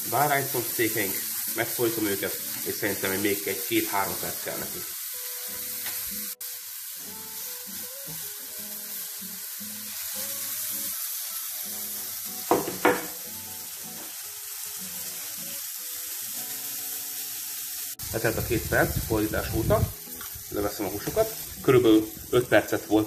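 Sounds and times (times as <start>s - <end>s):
meat sizzling on a grill: 0.0s - 23.0s
soft background music: 0.0s - 23.0s.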